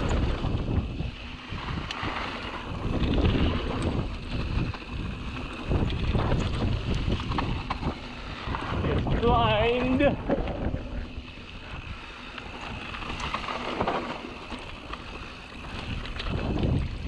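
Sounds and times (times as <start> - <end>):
bike rattling over bumps: 0.0 - 17.0
bike tyres on dirt: 0.0 - 17.0
wind rushing over microphone: 0.0 - 17.0.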